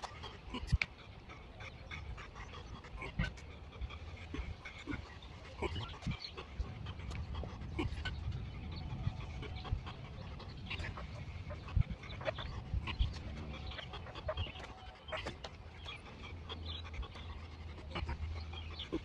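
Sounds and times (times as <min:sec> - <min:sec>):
man panting hard: 0:00.0 - 0:19.0
steady low rumble: 0:00.0 - 0:19.0.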